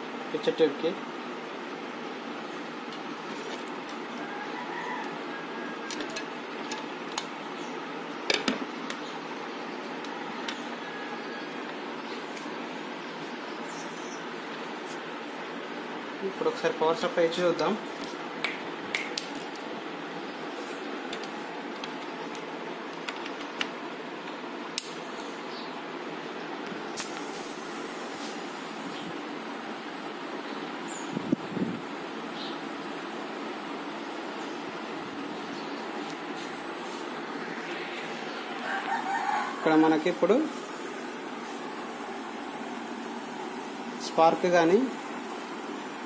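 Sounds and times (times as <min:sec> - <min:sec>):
steady background hiss: 0:00.0 - 0:46.0.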